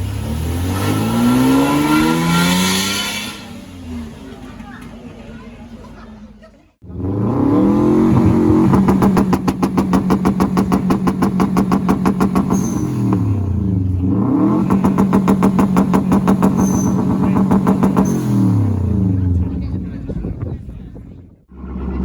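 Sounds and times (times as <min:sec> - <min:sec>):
car engine revving: 0:00.0 - 0:04.5, 0:06.8 - 0:22.0.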